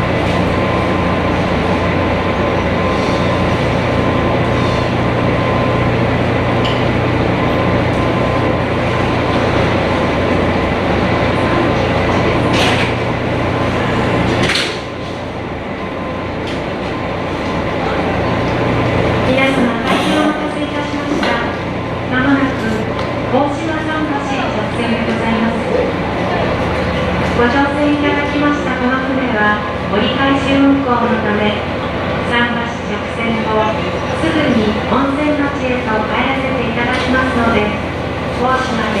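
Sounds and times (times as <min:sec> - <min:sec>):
boat engine humming: 0:00.0 - 0:39.0.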